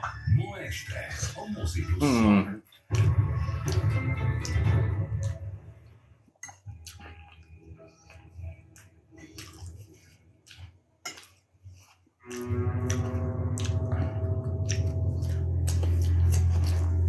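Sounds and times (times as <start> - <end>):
wet chewing: 0.5 - 17.0.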